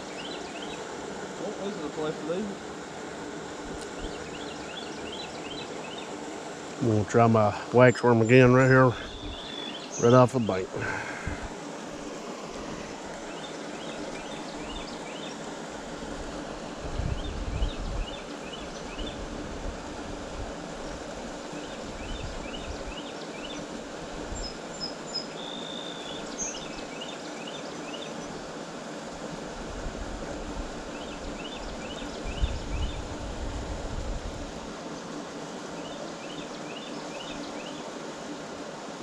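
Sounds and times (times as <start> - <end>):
steady rush of creek: 0.0 - 39.0.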